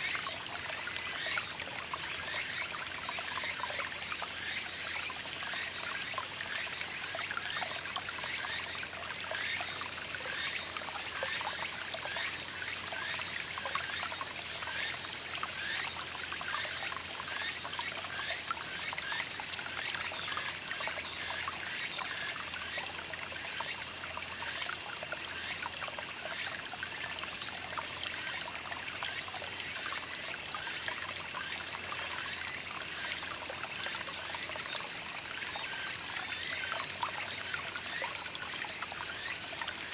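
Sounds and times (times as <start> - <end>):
high-pitched insect chorus: 0.0 - 39.9
stream babbling over stones: 0.0 - 39.9.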